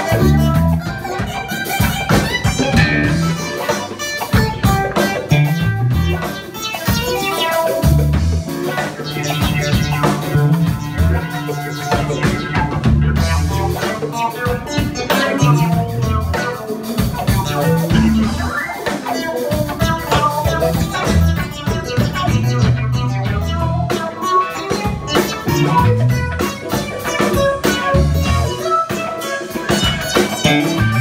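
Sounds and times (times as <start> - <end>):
bass guitar notes: 0.0 - 1.0, 2.5 - 28.7, 29.7 - 31.0
drum kit hits: 0.0 - 31.0
electric guitar: 0.0 - 31.0.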